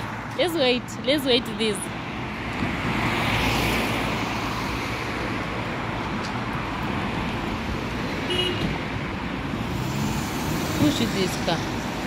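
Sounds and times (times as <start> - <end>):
cars passing by: 0.0 - 12.0.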